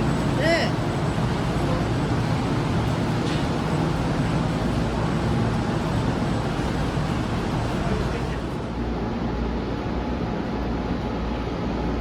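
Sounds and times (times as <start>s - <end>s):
train cabin running rumble: 0.0s - 11.8s.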